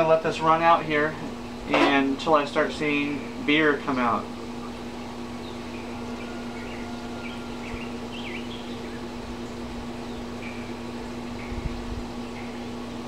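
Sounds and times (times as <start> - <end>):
pump humming: 0.0 - 13.0.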